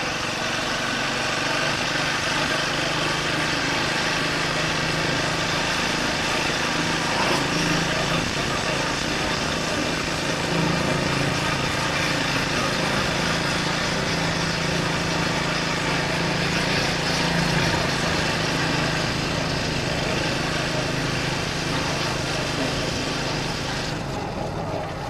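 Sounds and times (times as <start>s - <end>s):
motorcycle engine running: 0.0s - 25.0s
steady rushing noise: 0.0s - 25.0s.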